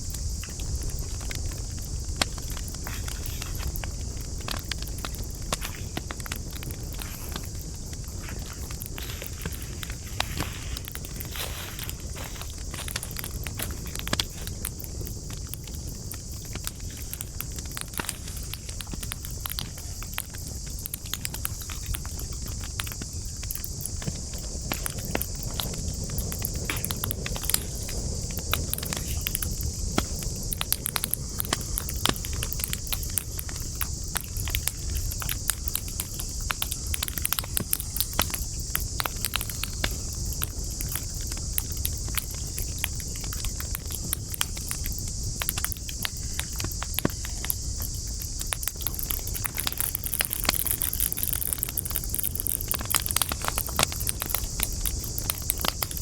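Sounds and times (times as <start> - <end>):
campfire crackling: 0.0 - 56.0
steady high-pitched hiss: 0.0 - 56.0.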